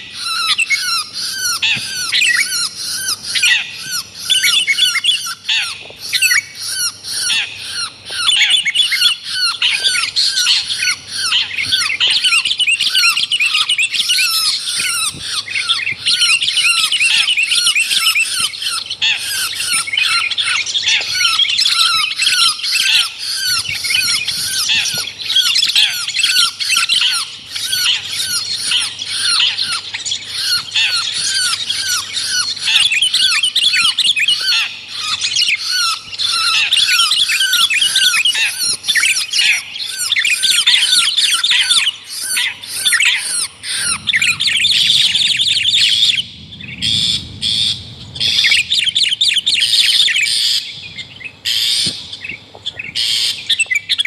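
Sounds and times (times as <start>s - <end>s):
harsh squawky bird calls: 0.0s - 54.0s.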